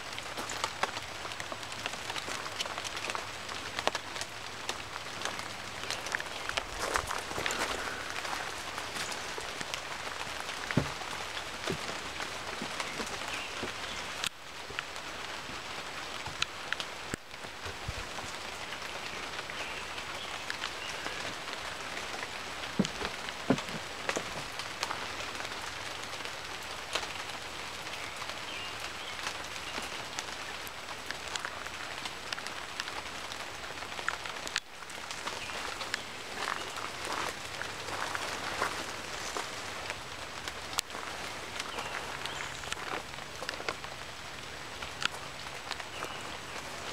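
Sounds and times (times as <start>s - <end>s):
rain on foliage: 0.0s - 46.9s.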